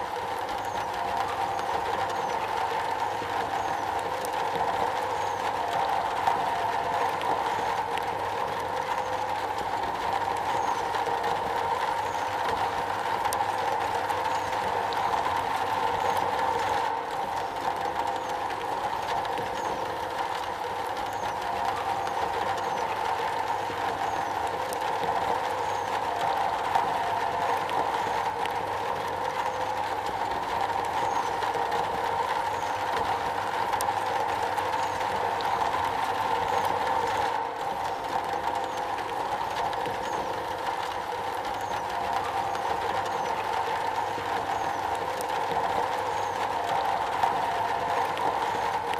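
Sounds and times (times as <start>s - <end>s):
rain on a metal roof: 0.0s - 48.9s.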